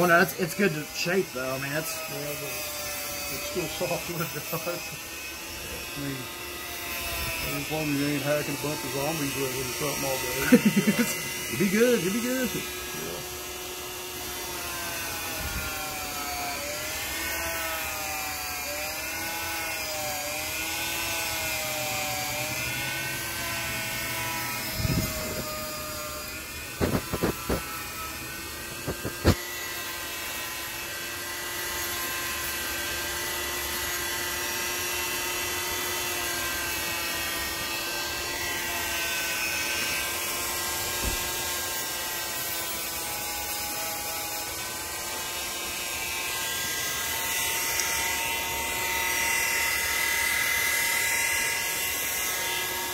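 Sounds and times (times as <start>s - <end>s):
power tool motor whining: 0.0s - 52.9s.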